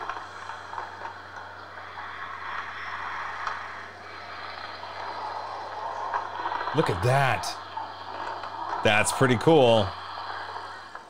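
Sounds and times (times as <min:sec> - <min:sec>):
rough shifting noise: 0:00.0 - 0:11.0.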